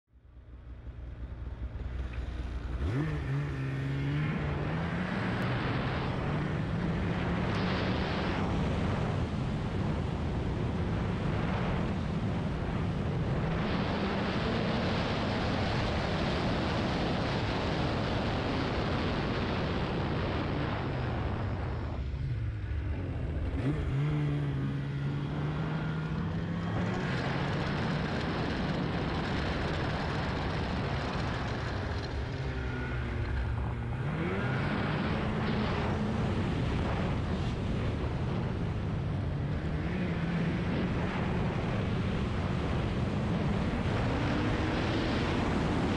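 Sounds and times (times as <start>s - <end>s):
snowmobile engine running: 1.9s - 45.9s.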